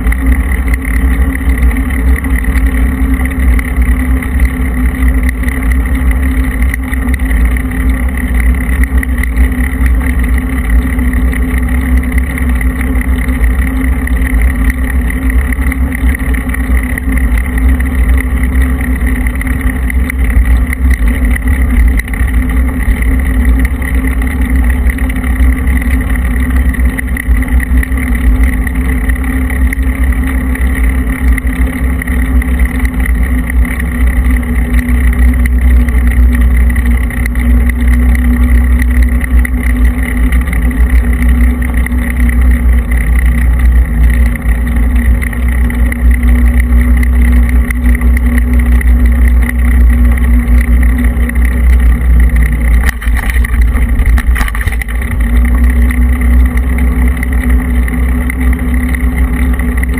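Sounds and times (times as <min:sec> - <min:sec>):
constant hum: 0:00.0 - 0:59.9
road rumble: 0:00.0 - 0:59.9
wind rush on microphone: 0:00.0 - 0:59.9.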